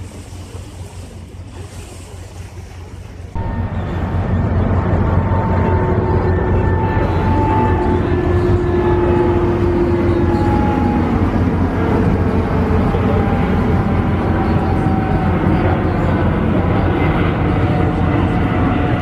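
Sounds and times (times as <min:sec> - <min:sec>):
loud engine drone: 0:03.2 - 0:19.0.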